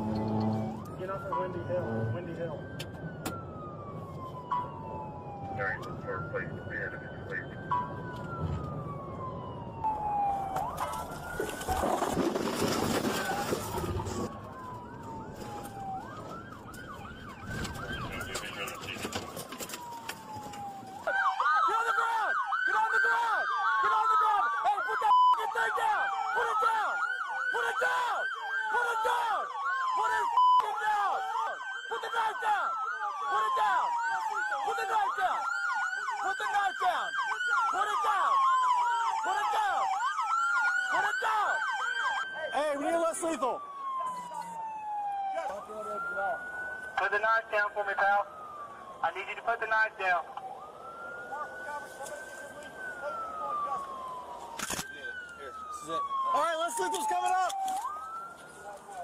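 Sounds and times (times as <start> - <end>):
police sirens wailing and yelping: 0.0 - 59.0.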